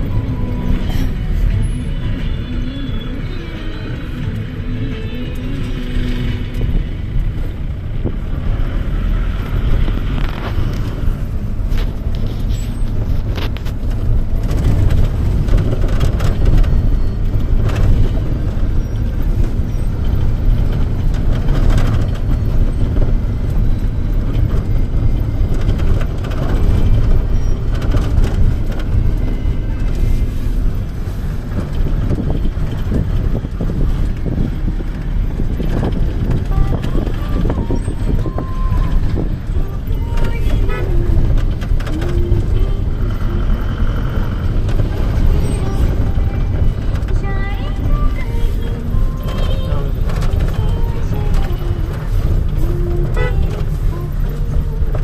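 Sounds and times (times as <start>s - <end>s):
road noise: 0.0s - 55.0s
vehicle engine rumble: 0.0s - 55.0s.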